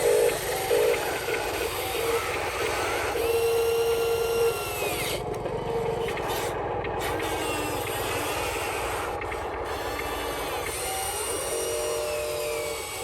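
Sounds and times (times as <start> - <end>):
small electric motors whirring: 0.0 - 13.0.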